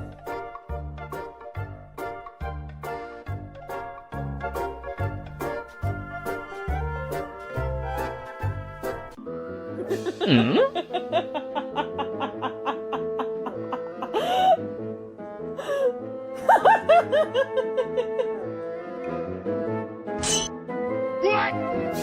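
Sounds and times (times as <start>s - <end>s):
upbeat background music: 0.0s - 22.0s.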